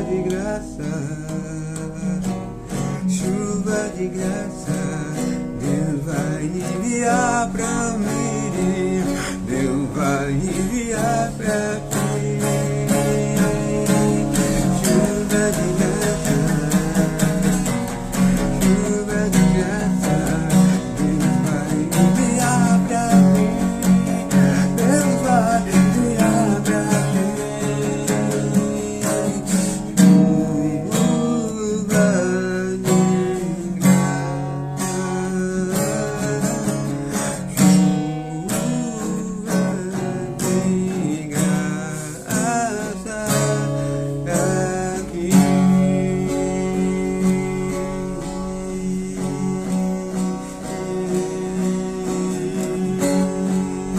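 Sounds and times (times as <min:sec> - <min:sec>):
strummed acoustic guitar: 0:00.0 - 0:53.9.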